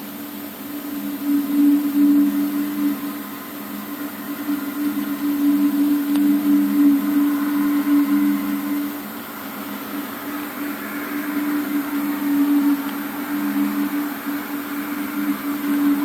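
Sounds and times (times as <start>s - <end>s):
low two-tone drone: 0.0s - 16.0s.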